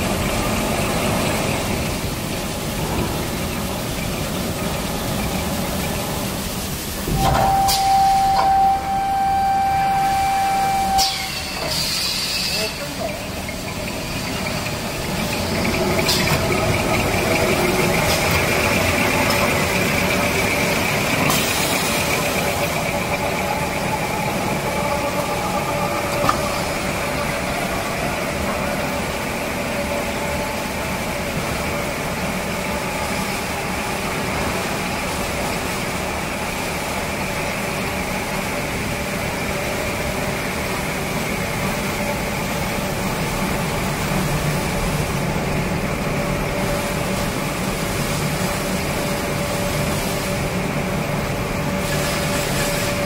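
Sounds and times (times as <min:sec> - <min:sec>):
machine hum with high whine: 0:00.0 - 0:53.0.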